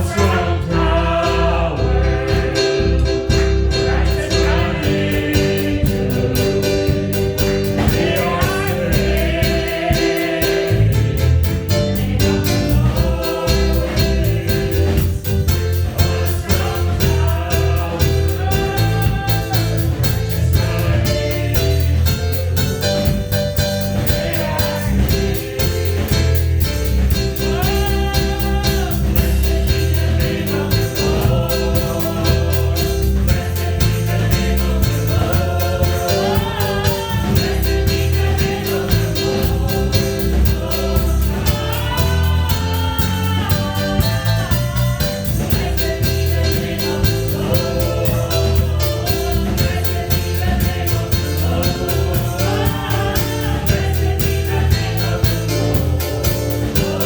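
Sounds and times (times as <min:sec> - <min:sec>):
congregation singing: 0:00.0 - 0:57.0
instrumental accompaniment: 0:00.0 - 0:57.0.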